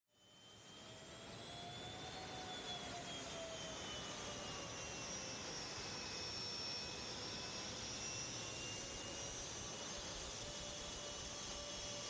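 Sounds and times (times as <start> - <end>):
faint high whines sliding down: 0.1 - 12.0.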